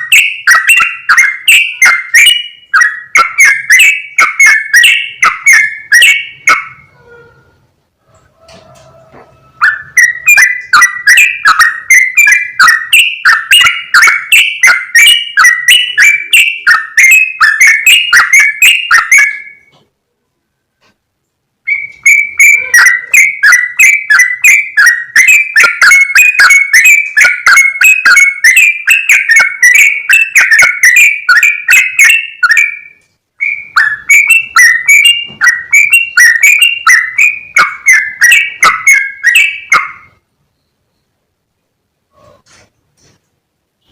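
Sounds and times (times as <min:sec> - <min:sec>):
bulbul calls distorted: 0:00.0 - 0:07.0, 0:09.1 - 0:19.7, 0:21.7 - 0:40.2.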